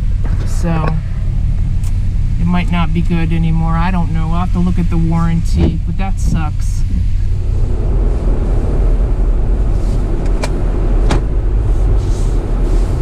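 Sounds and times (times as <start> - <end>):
van engine rumbling: 0.0 - 13.0.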